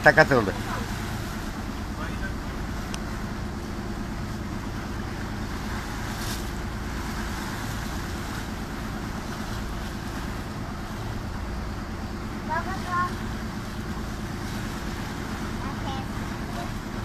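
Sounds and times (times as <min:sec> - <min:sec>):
boat engine humming: 0:00.0 - 0:17.0
water rushing past: 0:00.0 - 0:17.0.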